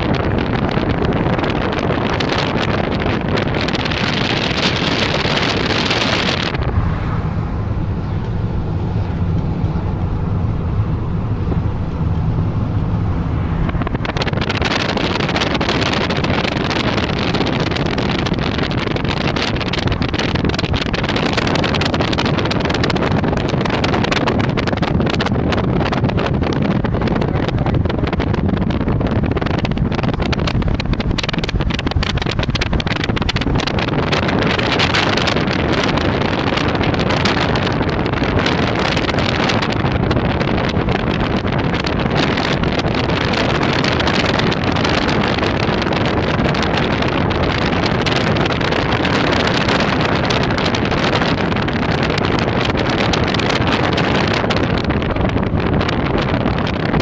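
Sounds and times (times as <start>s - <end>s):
heavy rain pelting a vehicle: 0.0s - 57.0s
wind buffeting microphone: 0.0s - 57.0s.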